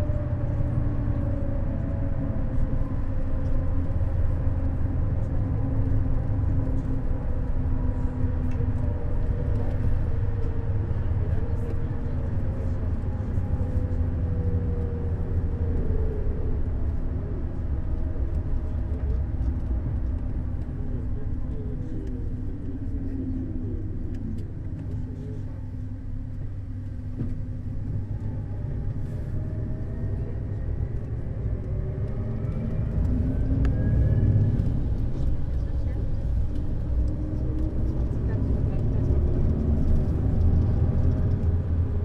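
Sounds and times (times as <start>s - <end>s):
coach engine and road rumble: 0.0s - 42.0s.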